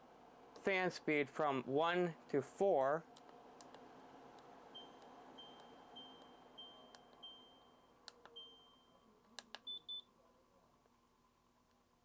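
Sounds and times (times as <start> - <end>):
faint fan hum: 0.0 - 12.0.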